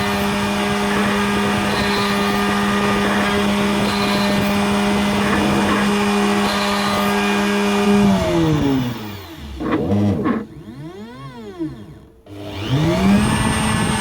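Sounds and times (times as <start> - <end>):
machine motor whine: 0.0 - 14.0.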